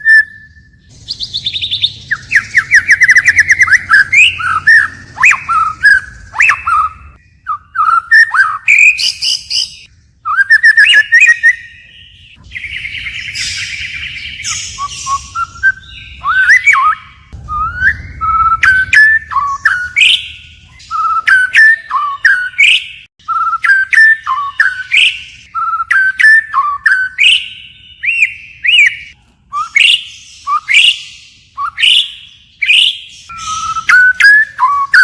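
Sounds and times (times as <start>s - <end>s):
bird singing: 0.0s - 35.0s.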